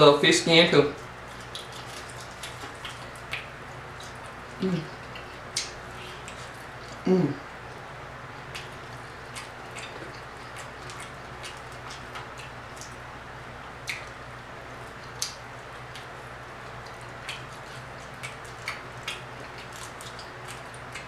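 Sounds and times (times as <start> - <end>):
steady low hum: 0.0 - 21.0
chewing and wet mouth smacks: 1.3 - 7.0, 8.4 - 13.0, 13.8 - 14.2, 14.8 - 21.0.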